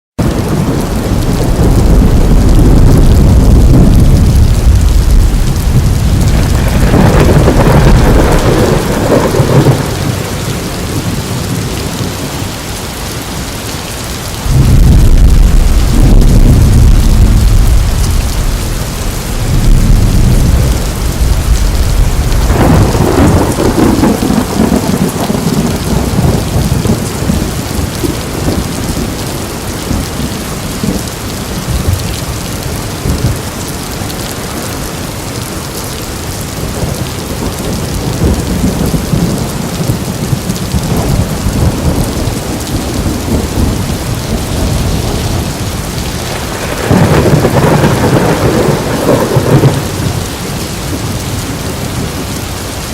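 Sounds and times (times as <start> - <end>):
heavy rain hissing: 0.2 - 52.9
thunder rumbling: 0.2 - 52.9.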